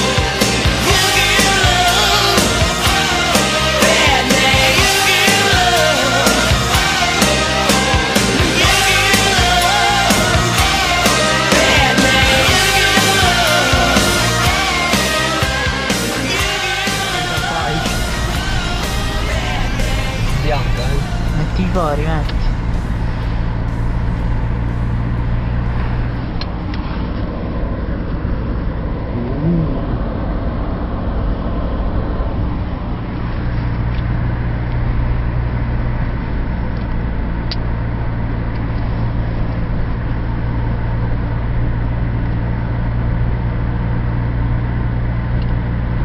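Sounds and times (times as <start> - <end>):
car engine hum: 0.0 - 46.0
road noise: 0.0 - 46.0.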